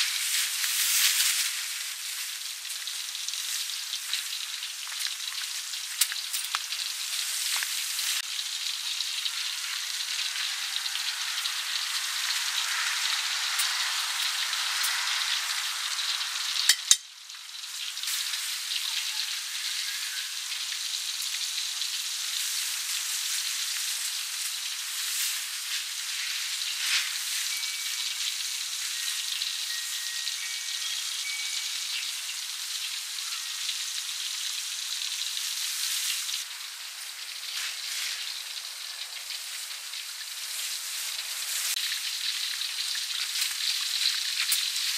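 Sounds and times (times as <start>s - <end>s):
food deep-frying in oil: 0.0s - 44.9s.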